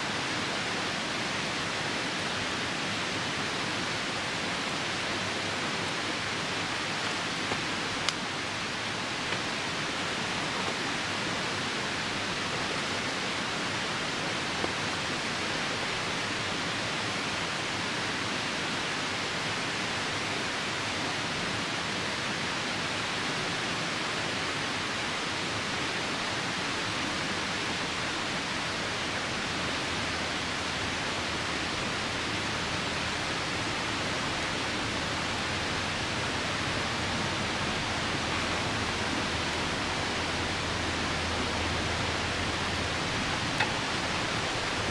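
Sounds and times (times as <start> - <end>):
rain: 0.0 - 44.9
river rushing: 0.0 - 44.9.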